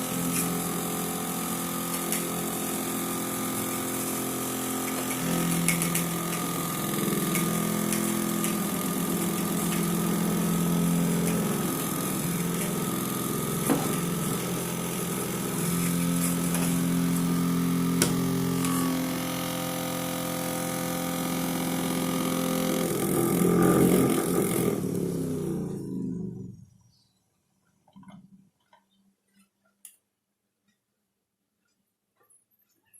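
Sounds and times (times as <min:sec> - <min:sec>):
vacuum motor humming: 0:00.0 - 0:26.7.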